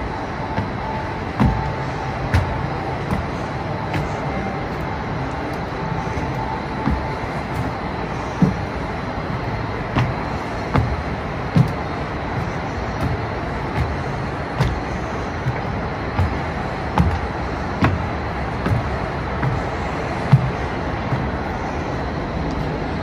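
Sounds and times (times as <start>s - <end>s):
city traffic hum: 0.0s - 23.0s
footsteps on wooden decking: 0.0s - 23.0s.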